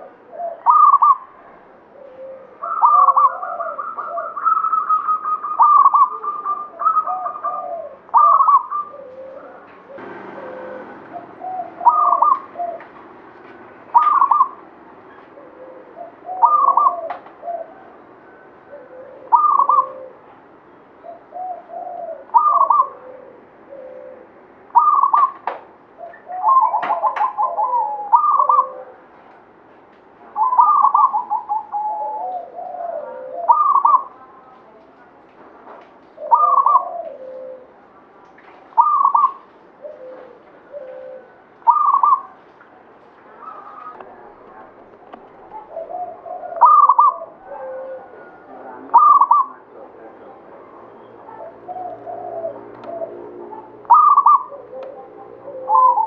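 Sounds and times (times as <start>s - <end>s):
dove cooing: 0.0s - 29.3s, 30.2s - 35.0s, 36.0s - 42.5s, 43.3s - 56.0s.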